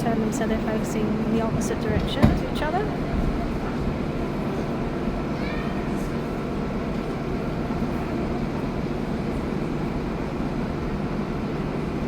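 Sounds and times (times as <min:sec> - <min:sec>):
train idling rumble: 0:00.0 - 0:12.0.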